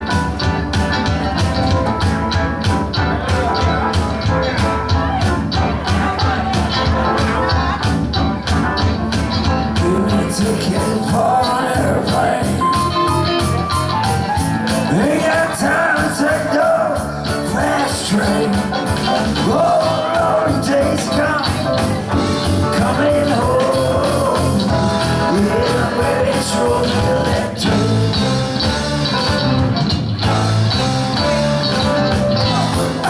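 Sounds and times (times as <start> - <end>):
rock and roll band playing: 0.0 - 33.0.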